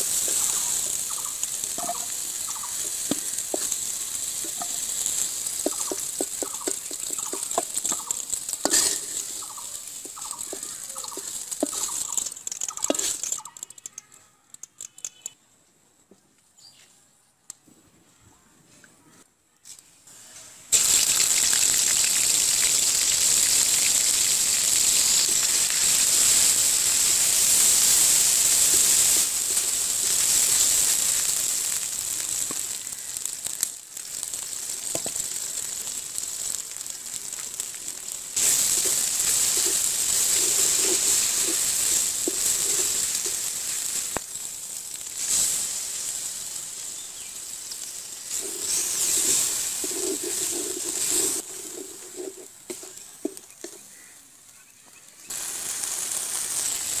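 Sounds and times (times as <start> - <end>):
seeds sizzling in hot oil: 0.0 - 14.0, 20.1 - 57.0.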